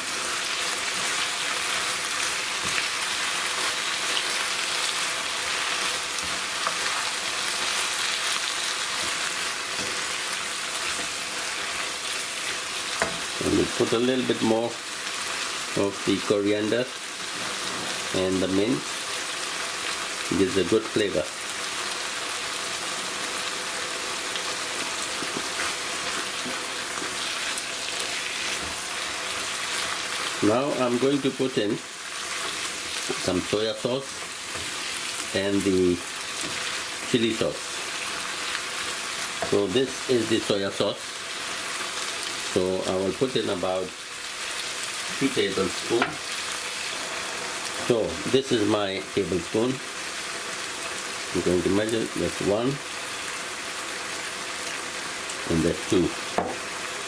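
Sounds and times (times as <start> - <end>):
rice sizzling in a pan: 0.0 - 57.0.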